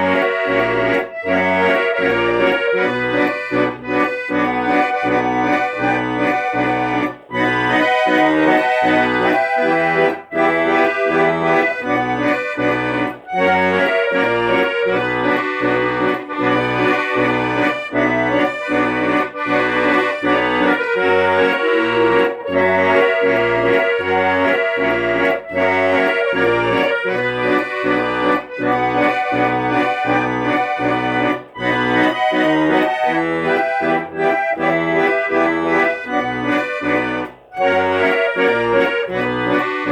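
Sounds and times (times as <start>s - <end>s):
accordion music: 0.0s - 39.9s.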